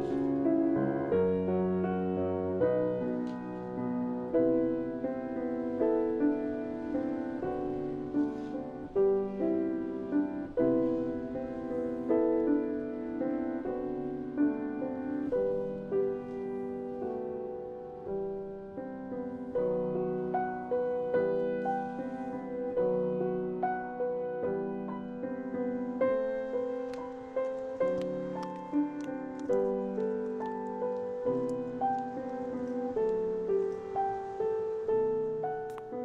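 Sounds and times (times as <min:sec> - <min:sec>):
slow gentle piano music: 0:00.0 - 0:36.0.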